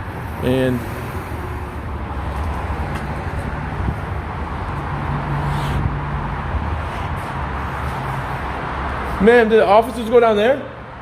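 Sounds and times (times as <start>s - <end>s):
road traffic with low hum: 0.0s - 11.0s.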